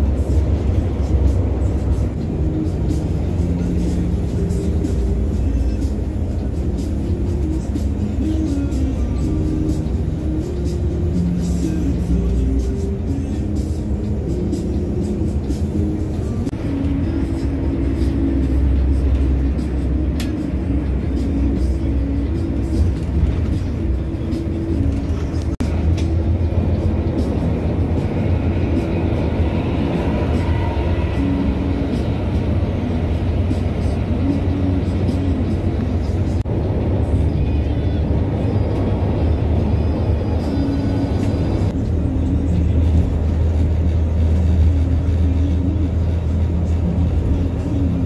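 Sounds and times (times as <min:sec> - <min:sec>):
bus engine rumble: 0:00.0 - 0:48.0
music playing: 0:00.0 - 0:48.0.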